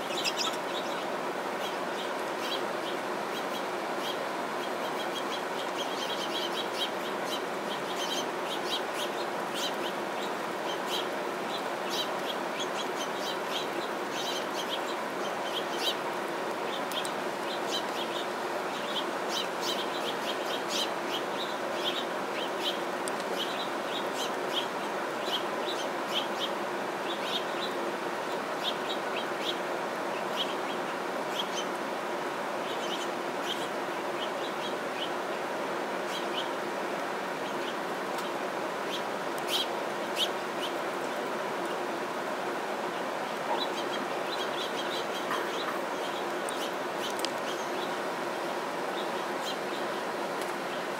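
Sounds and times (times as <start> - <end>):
finches chirping: 0.0 - 31.8, 32.6 - 35.4, 36.0 - 36.6, 37.4 - 41.9, 42.8 - 48.0, 48.8 - 50.9
steady background hiss: 0.0 - 50.9.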